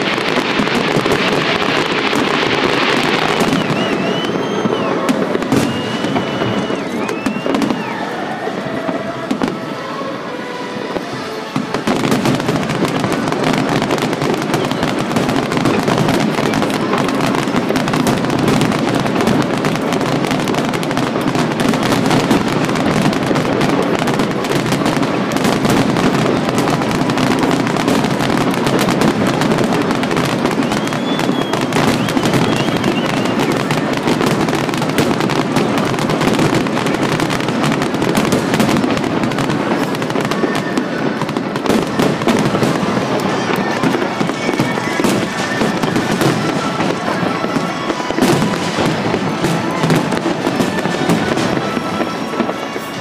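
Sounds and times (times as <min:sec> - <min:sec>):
fireworks bangs and crackle: 0:00.0 - 0:53.0.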